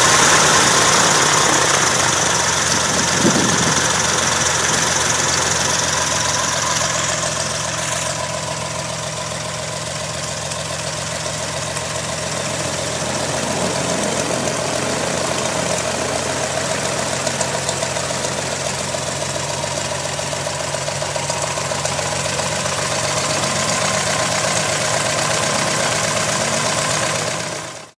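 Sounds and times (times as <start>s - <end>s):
aircraft engine and propeller running: 0.0s - 28.0s.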